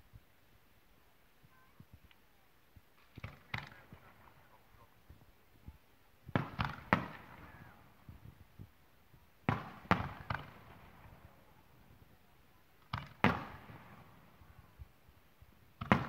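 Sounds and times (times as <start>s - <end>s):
fireworks bursting with loud bangs: 2.9s - 16.0s.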